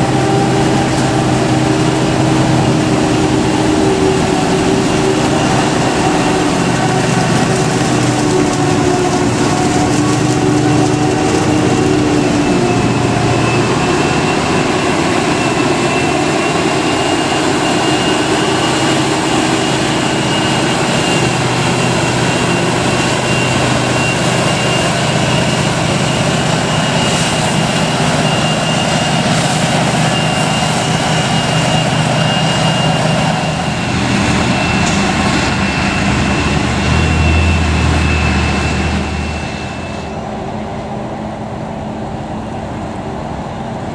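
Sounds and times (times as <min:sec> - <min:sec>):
thin high whine: 0:00.0 - 0:41.0
forage harvester engine and crop rush: 0:00.0 - 0:43.9.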